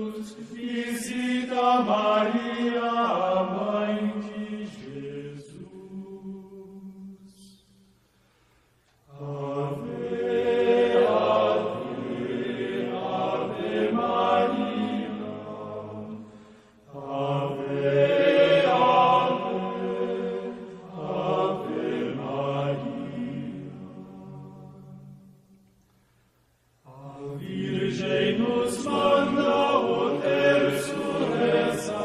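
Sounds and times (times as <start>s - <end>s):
slow chanted singing: 0.0s - 32.0s.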